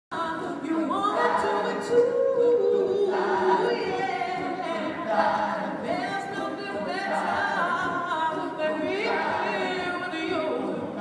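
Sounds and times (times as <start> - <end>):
choir singing unaccompanied: 0.2 - 11.0.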